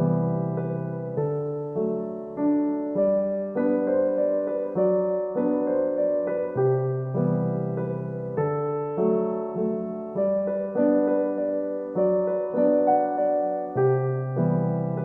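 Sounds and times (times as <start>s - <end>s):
gentle keyboard melody: 0.0s - 15.0s.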